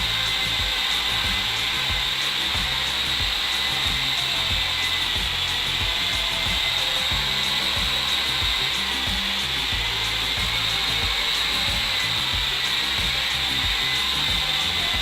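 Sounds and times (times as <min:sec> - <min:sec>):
background music with bass: 0:00.0 - 0:15.0
small electric motor whirring: 0:00.0 - 0:15.0.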